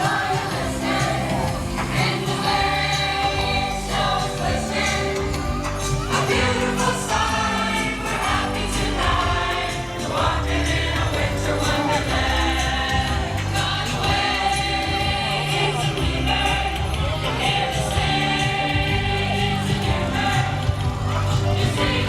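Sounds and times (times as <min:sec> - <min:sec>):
choir singing a carol: 0:00.0 - 0:22.0
musical accompaniment: 0:00.0 - 0:22.0.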